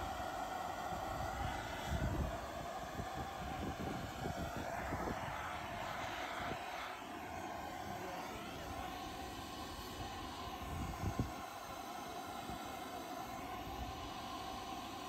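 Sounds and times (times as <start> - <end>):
gas blowtorch burning: 0.0 - 15.0.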